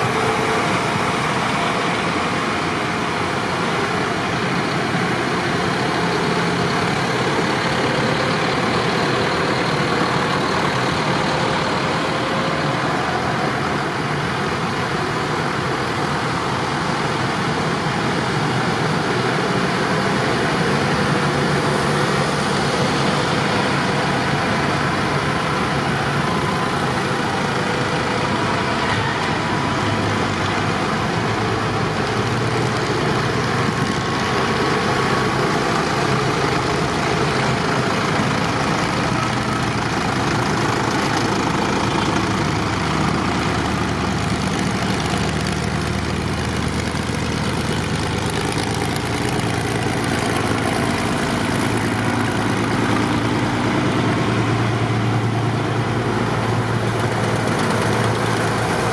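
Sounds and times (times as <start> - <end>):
vehicle engine running: 0.0 - 58.9.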